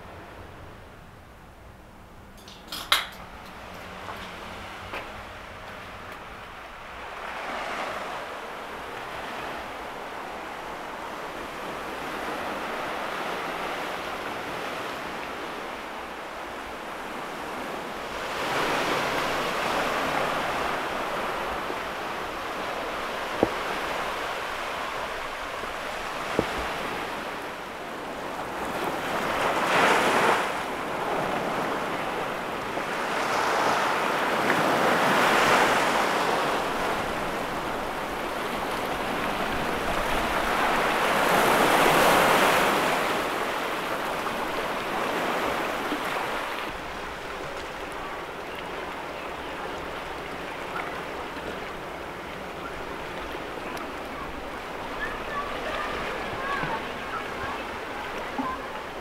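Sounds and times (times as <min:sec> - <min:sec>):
sea waves washing against shore: 0:02.4 - 0:59.0.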